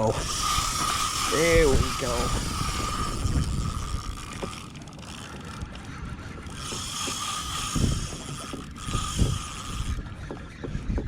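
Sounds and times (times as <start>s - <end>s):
fishing reel drag ratcheting: 0.0s - 10.4s.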